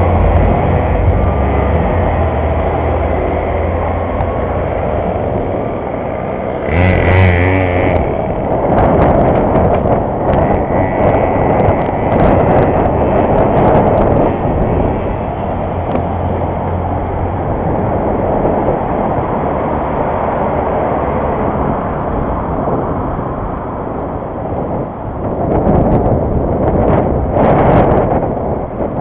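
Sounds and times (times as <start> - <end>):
road rumble: 0.0 - 29.0
wind rush on microphone: 0.0 - 29.0.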